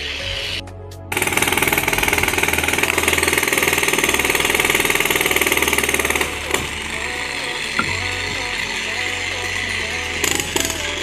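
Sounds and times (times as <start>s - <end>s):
jackhammer on concrete: 1.2s - 11.0s.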